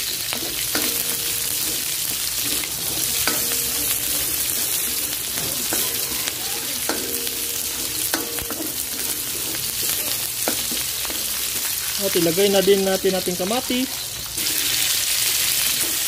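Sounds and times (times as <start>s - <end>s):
aromatics sizzling in hot oil: 0.0s - 16.0s
spatula scraping and knocking wok: 0.0s - 16.0s.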